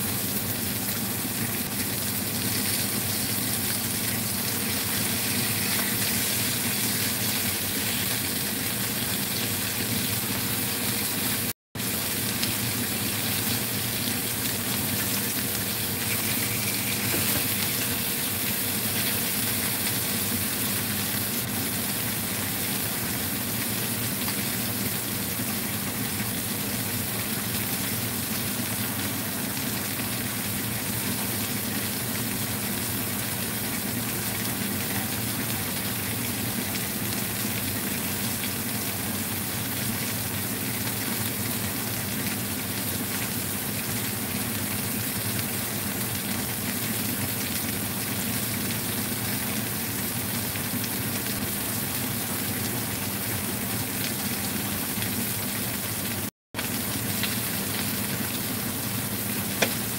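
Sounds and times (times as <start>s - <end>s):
fish sizzling in oil: 0.0s - 59.9s.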